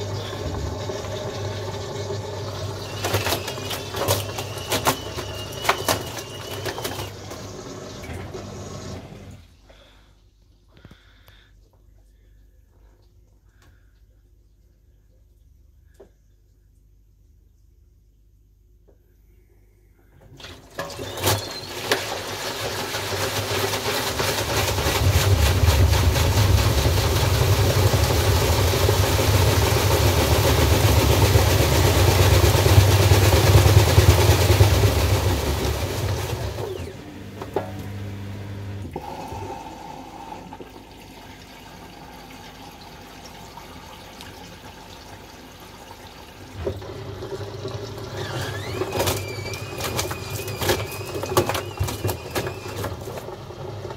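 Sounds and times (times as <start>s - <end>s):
washing machine spinning: 0.0s - 9.6s, 20.3s - 53.9s.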